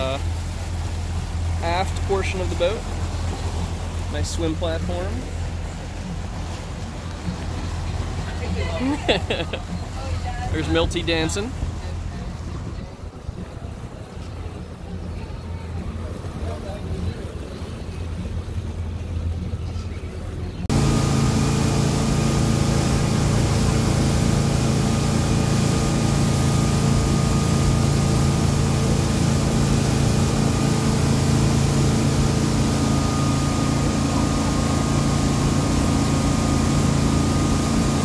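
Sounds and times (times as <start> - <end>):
boat engine drone: 0.0 - 38.0
rushing wake water: 0.0 - 38.0
wind: 0.0 - 38.0.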